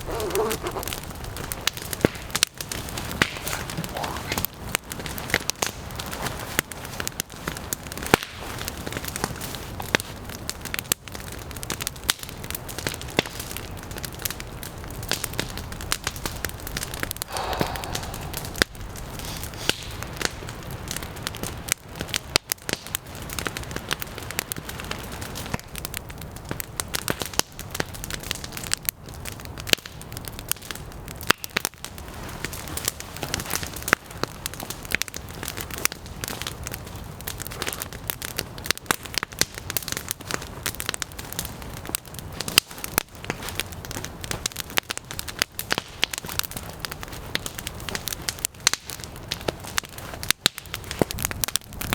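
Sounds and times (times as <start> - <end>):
campfire crackling and popping: 0.0 - 51.9.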